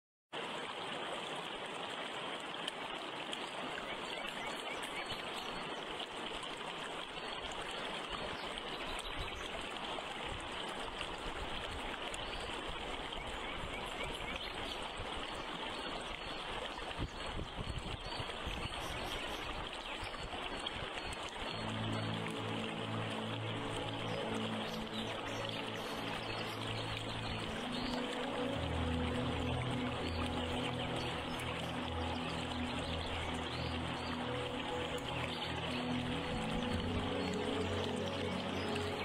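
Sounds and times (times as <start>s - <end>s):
flowing water rushing: 0.3s - 39.0s.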